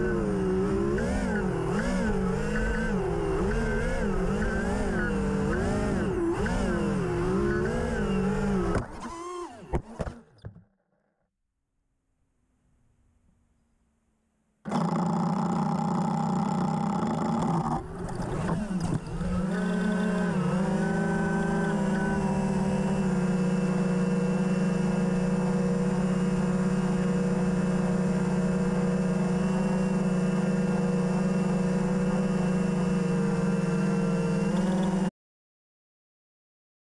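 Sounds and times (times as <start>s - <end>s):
quadcopter motors buzzing: 0.0s - 10.4s, 14.7s - 35.1s.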